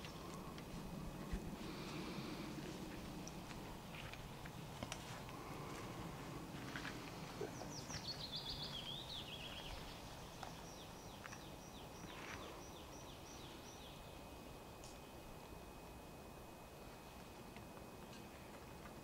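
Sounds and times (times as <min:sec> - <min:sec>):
songbirds singing: 0:00.0 - 0:15.8
low steady rumble: 0:00.0 - 0:19.0.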